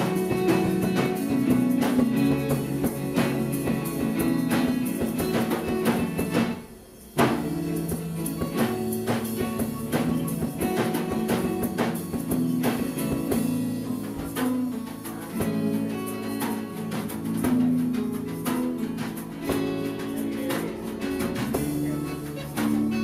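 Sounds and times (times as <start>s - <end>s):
acoustic guitars strummed: 0.0s - 23.0s
bass: 0.0s - 23.0s
hand percussion beat: 0.0s - 23.0s.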